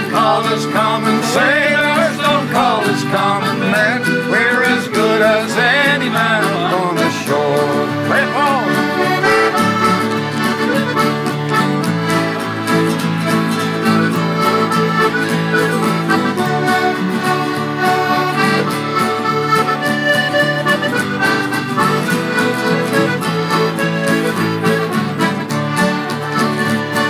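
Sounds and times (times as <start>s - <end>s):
acoustic guitars strumming: 0.0s - 27.0s
button accordion melody: 0.0s - 27.0s.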